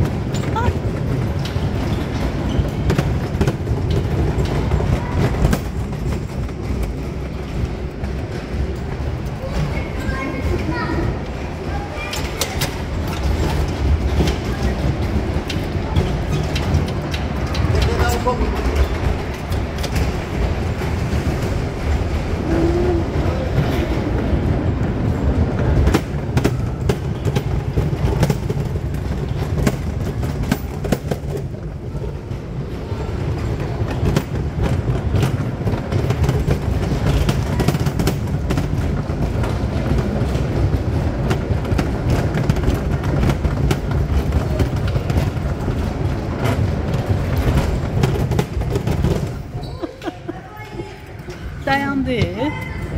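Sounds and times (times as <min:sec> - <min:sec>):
bumper cars rumbling: 0:00.0 - 0:52.9.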